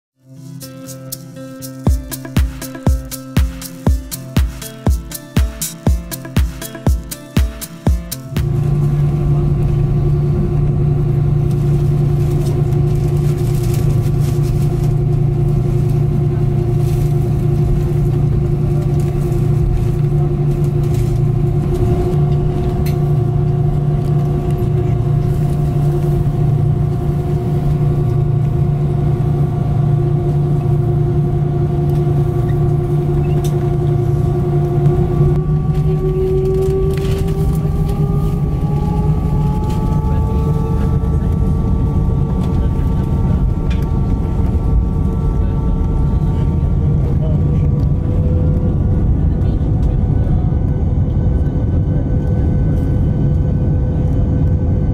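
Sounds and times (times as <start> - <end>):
jet engines droning and whining: 8.1 - 54.9.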